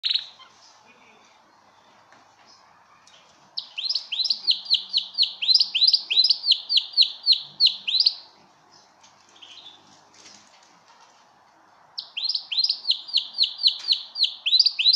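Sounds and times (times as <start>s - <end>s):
canary singing trill: 0.0s - 2.8s, 3.5s - 9.9s, 11.9s - 14.9s.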